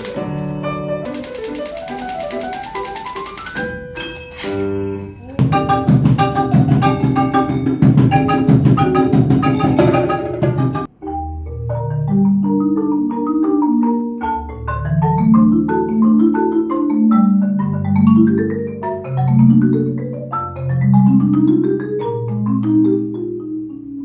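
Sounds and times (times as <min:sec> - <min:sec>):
marimba arpeggios: 0:00.0 - 0:24.0.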